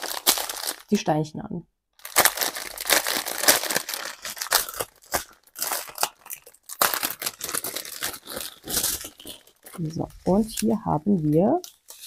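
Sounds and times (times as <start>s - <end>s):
plastic bags crinkling: 0.0s - 1.0s, 2.0s - 12.0s.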